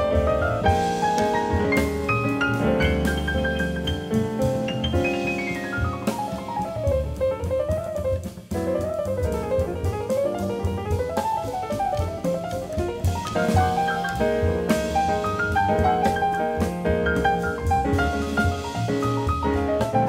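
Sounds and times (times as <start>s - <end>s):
jazz piano trio playing: 0.0s - 20.0s.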